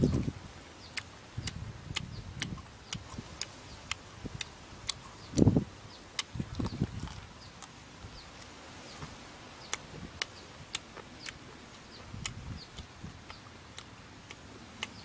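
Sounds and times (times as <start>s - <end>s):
soft low chewing thumps: 0.0s - 15.0s
wet chewing and mouth smacks: 0.9s - 5.5s, 6.1s - 8.6s, 9.6s - 15.0s.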